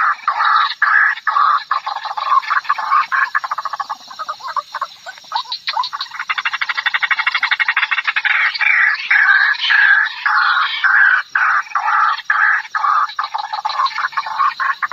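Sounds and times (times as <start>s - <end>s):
waterhen calling: 0.0s - 14.9s.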